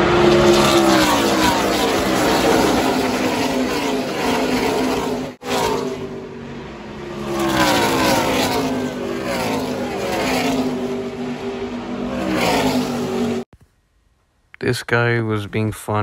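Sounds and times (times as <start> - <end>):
race car engines passing: 0.0 - 13.5.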